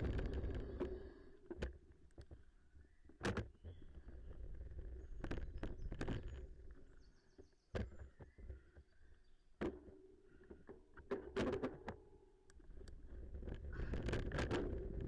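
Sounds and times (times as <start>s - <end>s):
bike knocking and rattling over bumps: 0.0s - 2.4s, 3.1s - 12.1s, 12.7s - 15.0s
rumble of wind and tyres: 0.0s - 15.0s.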